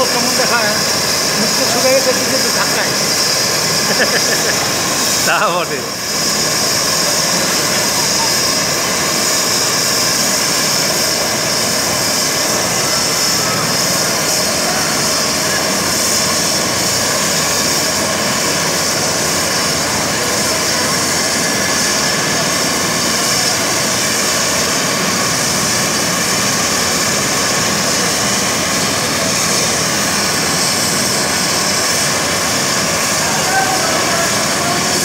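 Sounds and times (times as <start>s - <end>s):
continuous rushing noise: 0.0s - 35.0s
helicopter turbine whine: 0.0s - 35.0s.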